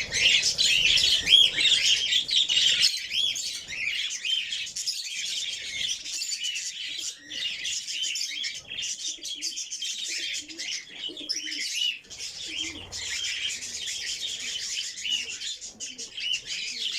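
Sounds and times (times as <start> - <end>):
cage birds chirping: 0.0 - 16.9.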